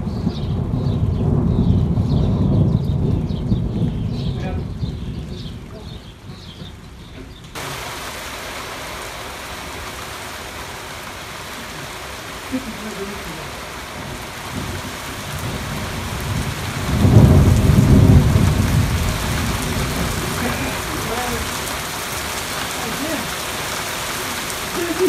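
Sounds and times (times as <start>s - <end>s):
rain hiss: 0.0s - 25.0s
thunder rolling: 0.0s - 25.0s.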